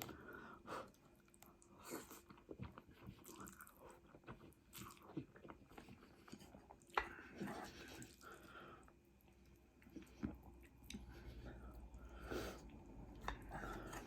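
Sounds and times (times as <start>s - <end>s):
person chewing and eating: 0.0s - 14.0s.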